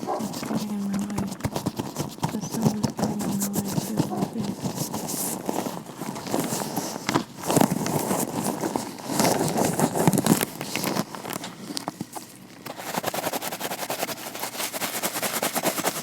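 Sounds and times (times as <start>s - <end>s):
gloved hands rubbing: 0.0s - 16.0s
light taps or scratches: 0.0s - 16.0s.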